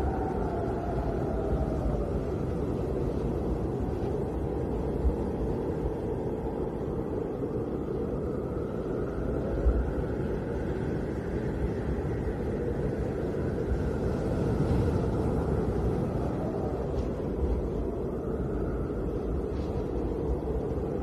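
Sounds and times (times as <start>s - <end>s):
snowstorm wind roaring: 0.0s - 21.0s.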